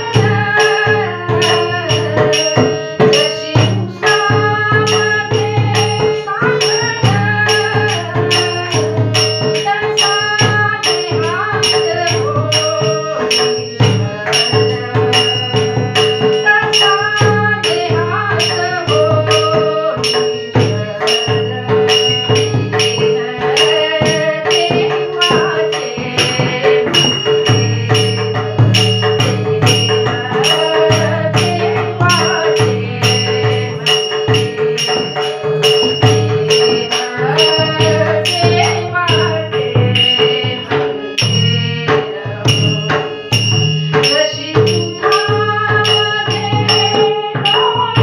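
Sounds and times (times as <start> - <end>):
hand cymbals ringing: 0.0 - 40.5, 42.5 - 48.0
harmonium held tones: 0.0 - 48.0
woman singing: 0.0 - 48.0.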